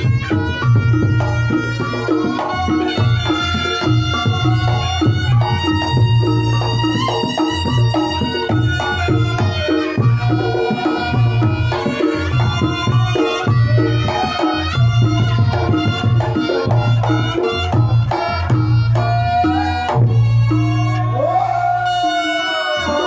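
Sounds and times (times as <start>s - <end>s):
deep regular drum beats: 0.0s - 21.5s
double-reed shawm melody: 0.0s - 23.0s
hand drums: 0.0s - 23.0s.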